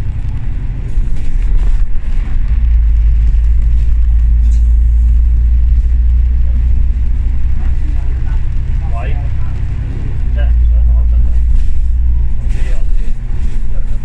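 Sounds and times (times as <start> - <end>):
bus engine and road noise: 0.0 - 14.0.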